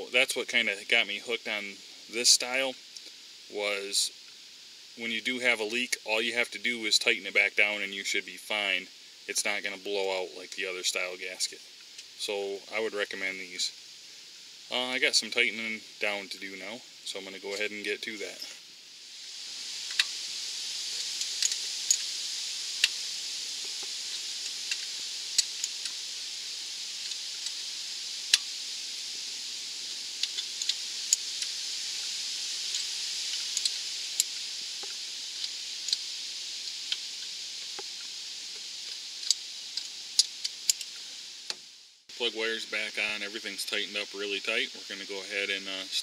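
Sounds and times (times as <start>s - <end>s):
high-pitched hiss: 0.0s - 46.0s.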